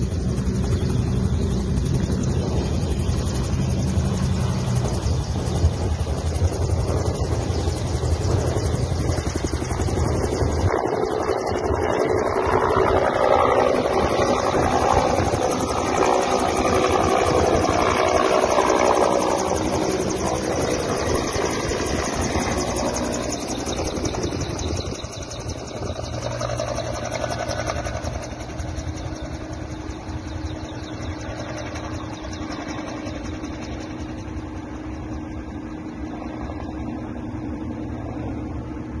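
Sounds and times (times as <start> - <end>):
helicopter engine noise: 0.0 - 39.0
helicopter rotor chop: 0.0 - 39.0.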